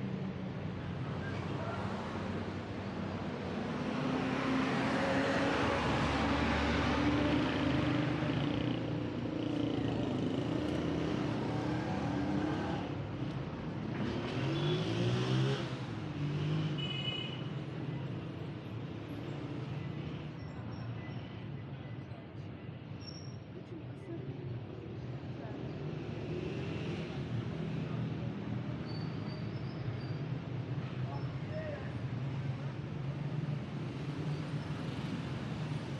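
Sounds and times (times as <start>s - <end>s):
road traffic noise: 0.0s - 35.9s.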